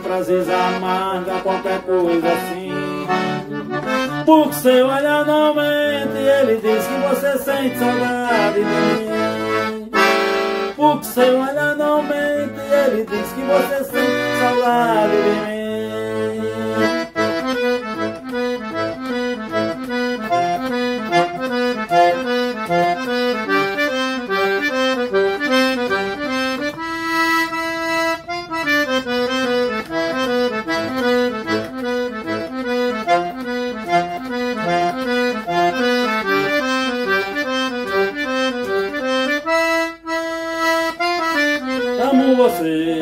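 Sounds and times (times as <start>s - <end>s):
accordion melody: 0.0s - 43.0s.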